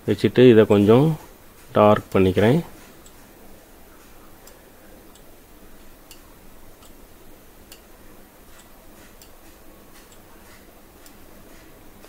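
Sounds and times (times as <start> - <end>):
low room hiss: 0.0 - 12.0.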